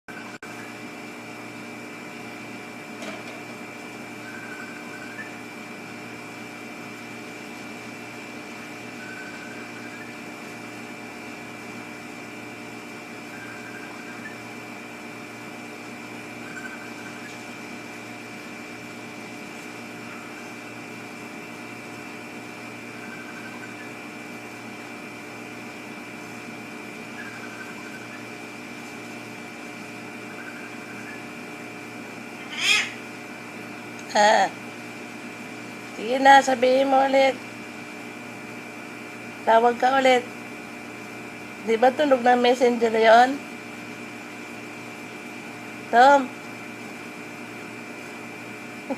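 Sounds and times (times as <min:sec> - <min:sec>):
steady machine hum: 0:00.1 - 0:48.9.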